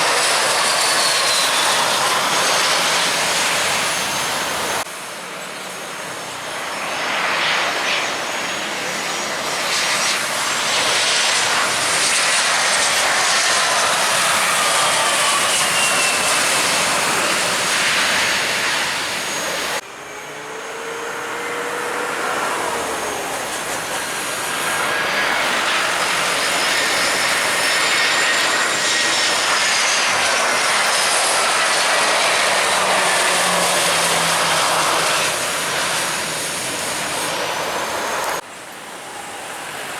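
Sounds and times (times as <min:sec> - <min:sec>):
jet airliner passing: 0:00.0 - 0:39.9.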